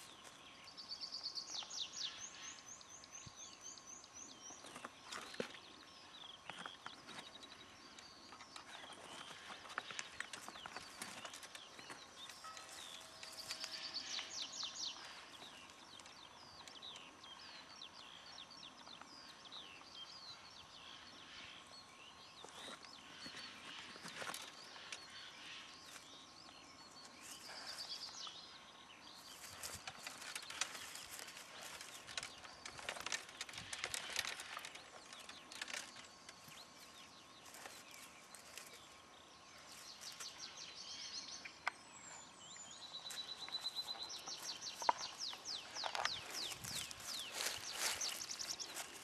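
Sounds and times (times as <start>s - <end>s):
small songbirds singing: 0.0s - 49.0s
twigs and grass rustling: 4.4s - 19.9s, 22.4s - 28.4s, 29.1s - 49.0s.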